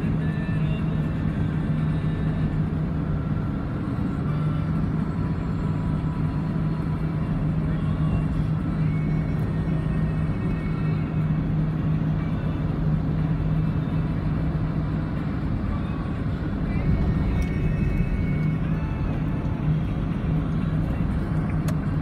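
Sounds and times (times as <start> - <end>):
car cabin road noise: 0.0 - 22.0.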